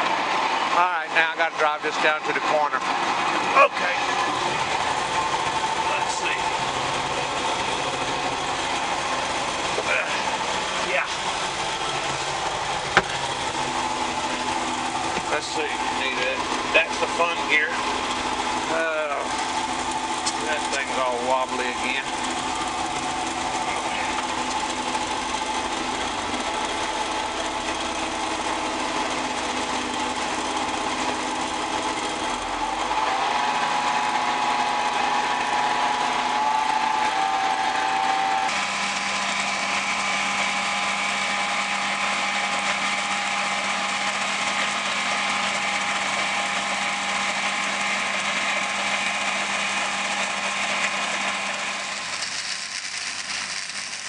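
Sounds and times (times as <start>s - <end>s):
vehicle engine whining: 0.0s - 54.0s.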